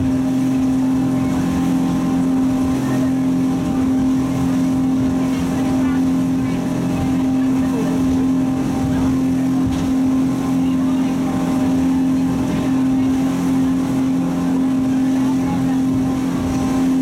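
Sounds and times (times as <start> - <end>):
rushing water and wind: 0.0 - 17.0
speedboat engine droning: 0.0 - 17.0.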